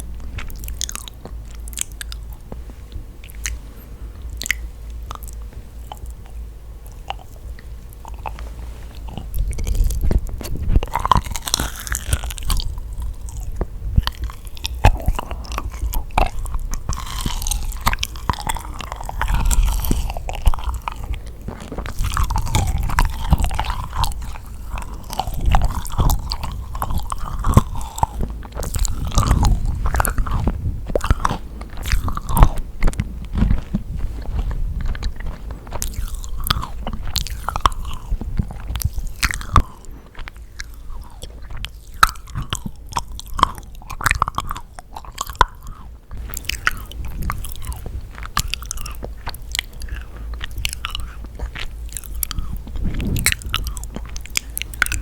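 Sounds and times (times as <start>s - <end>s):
sticky chewing mouth sounds: 0.0s - 55.0s
crisp bites: 4.2s - 55.0s.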